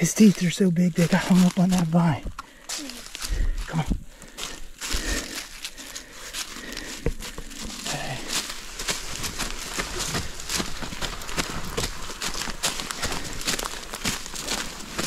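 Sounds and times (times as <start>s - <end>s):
dry leaves crackling and rustling: 0.0s - 3.8s, 4.4s - 15.0s
footsteps crunching in leaves: 0.0s - 15.0s.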